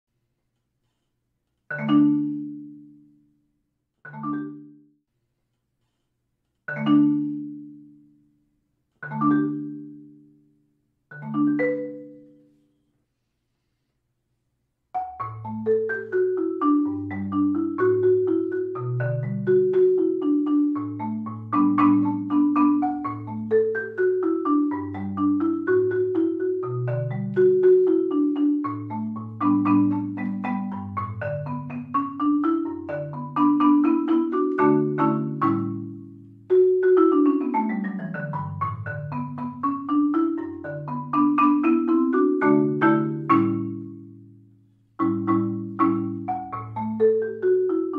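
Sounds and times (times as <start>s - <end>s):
upbeat marimba music: 1.7s - 3.2s, 4.1s - 4.9s, 6.7s - 8.1s, 9.0s - 10.4s, 11.1s - 12.5s, 14.9s - 47.9s.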